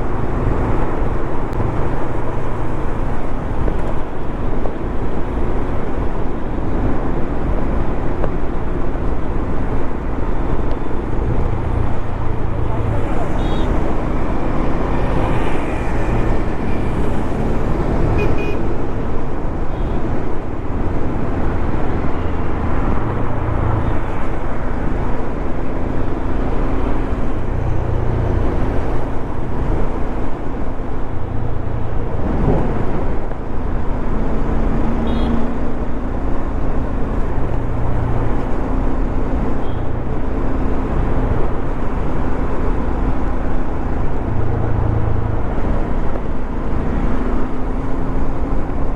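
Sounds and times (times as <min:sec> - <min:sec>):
wind and road noise: 0:00.0 - 0:48.9.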